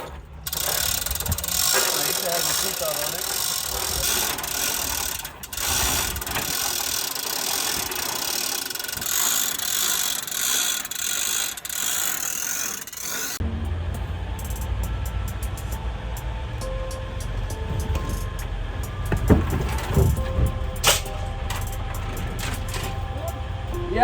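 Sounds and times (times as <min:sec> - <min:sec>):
ratchet hoist clicking: 0:00.4 - 0:23.8.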